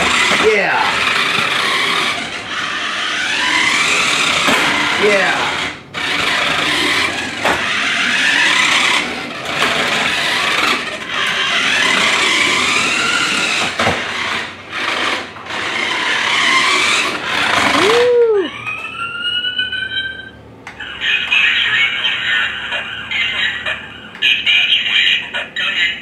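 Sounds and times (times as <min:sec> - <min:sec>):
toy car motor whirring: 0:00.0 - 0:26.0.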